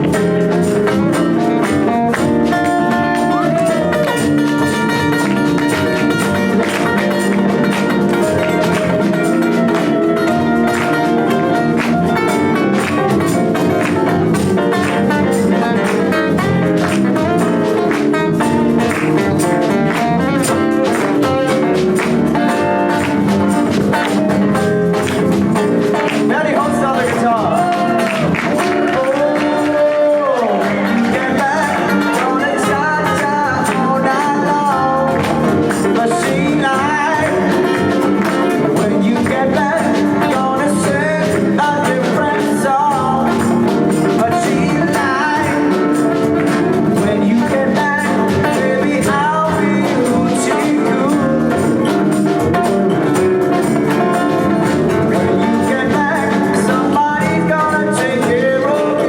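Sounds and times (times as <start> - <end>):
live band playing: 0.0 - 59.0
melodic guitar lines: 0.0 - 59.0.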